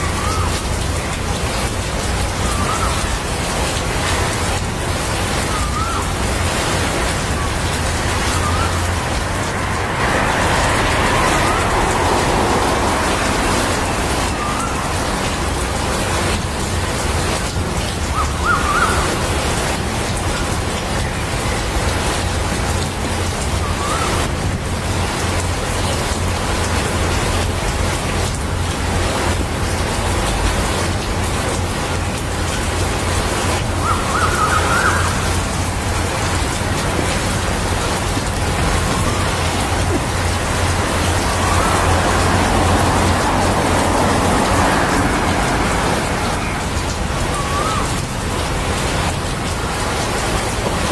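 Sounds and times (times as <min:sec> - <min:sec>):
rain falling on shrubs: 0:00.0 - 0:50.9.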